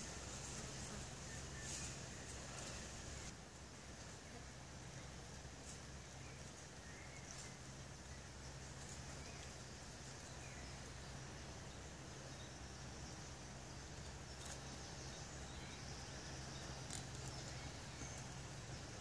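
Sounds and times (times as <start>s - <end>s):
high insect hum: 0.0s - 19.0s
low steady hum: 0.0s - 19.0s.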